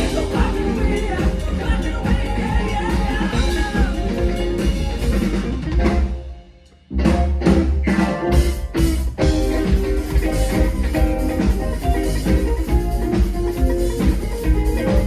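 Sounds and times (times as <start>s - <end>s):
drum kit: 0.0s - 15.0s
live rock band: 0.0s - 15.0s.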